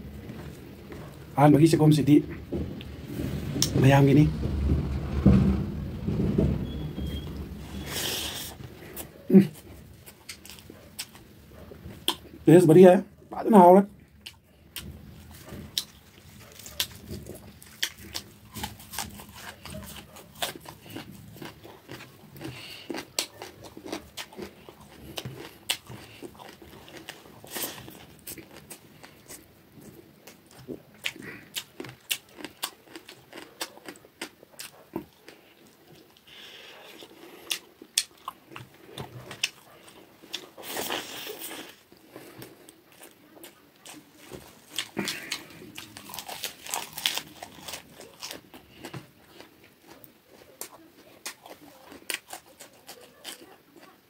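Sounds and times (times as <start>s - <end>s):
man chewing and lip smacking: 7.8s - 12.4s, 14.0s - 54.0s.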